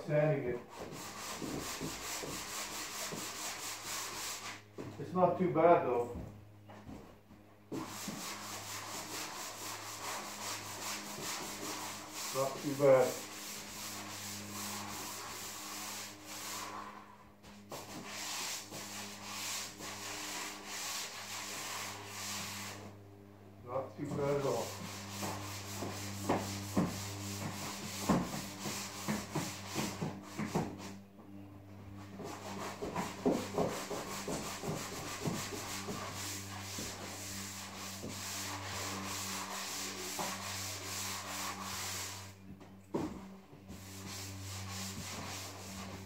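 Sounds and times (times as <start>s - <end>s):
hand sanding on wall: 0.0s - 6.0s, 6.8s - 46.0s.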